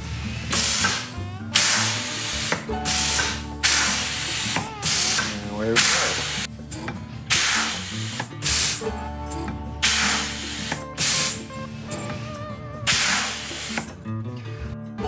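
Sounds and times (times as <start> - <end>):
air exhaust hisses: 0.0 - 6.5, 7.3 - 13.9
air pump cycling: 0.0 - 6.5, 7.3 - 8.9, 9.8 - 13.9.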